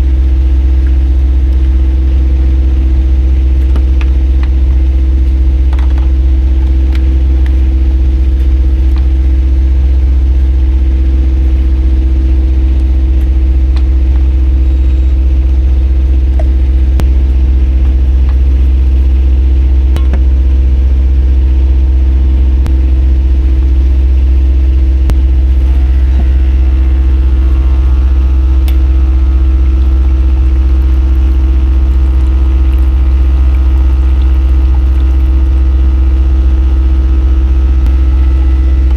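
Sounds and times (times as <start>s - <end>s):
boat engine droning: 0.0s - 38.9s
steady hum: 0.0s - 38.9s.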